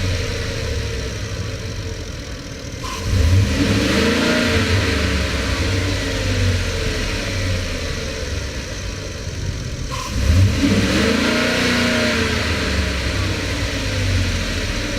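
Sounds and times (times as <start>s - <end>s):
truck engine revving: 0.0s - 14.9s.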